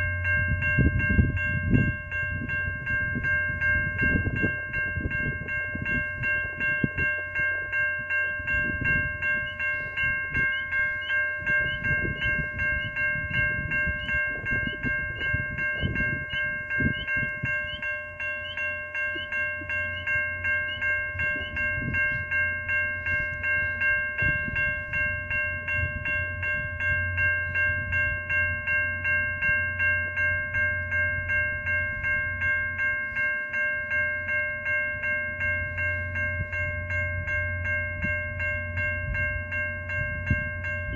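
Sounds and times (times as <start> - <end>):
level-crossing warning bell ringing: 0.0 - 40.9
low rumble of stopped train: 0.0 - 40.9.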